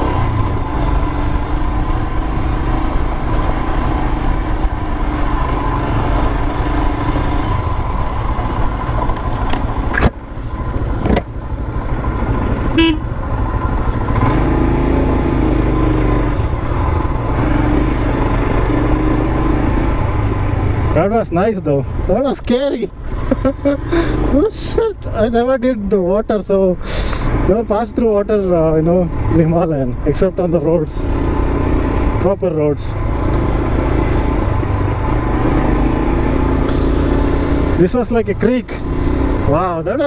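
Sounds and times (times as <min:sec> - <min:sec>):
motorcycle engine running: 0:00.0 - 0:26.2, 0:27.4 - 0:40.0.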